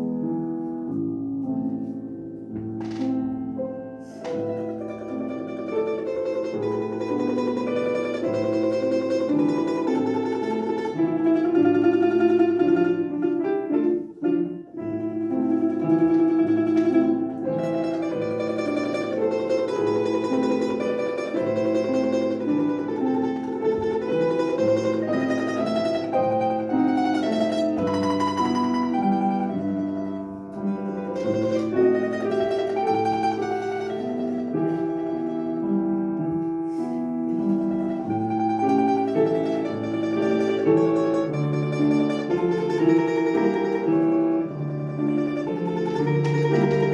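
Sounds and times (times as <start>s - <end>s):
plucked string instrument melody: 0.0s - 46.9s.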